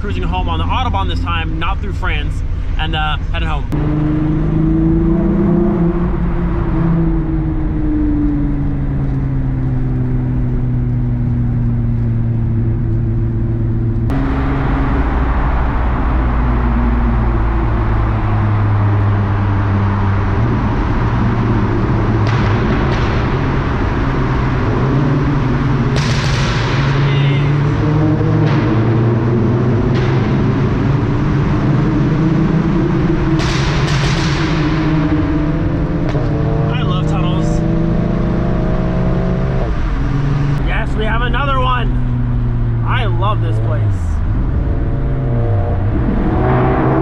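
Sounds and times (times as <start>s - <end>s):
car engine cruising: 0.0s - 47.0s
tyre and road noise: 0.0s - 47.0s.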